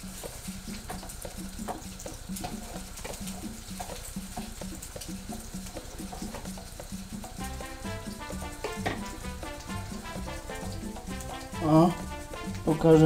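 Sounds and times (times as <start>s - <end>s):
faint sizzle of frying: 0.0s - 13.0s.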